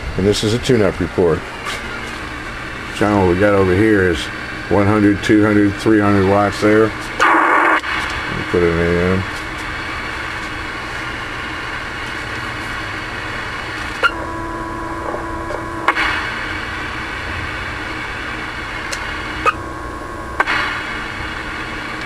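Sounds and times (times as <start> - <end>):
radio static hiss: 0.1 - 22.0.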